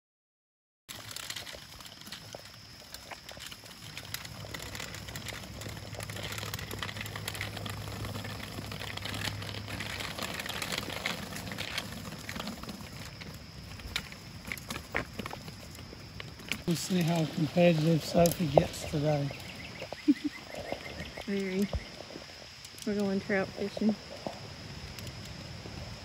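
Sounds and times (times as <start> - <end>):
bicycle tyres rattling on asphalt: 0.9 - 26.0.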